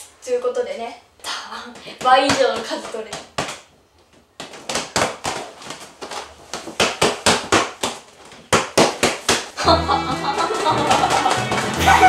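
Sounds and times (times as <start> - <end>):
hands slapping balloon yo-yos: 1.8 - 12.0.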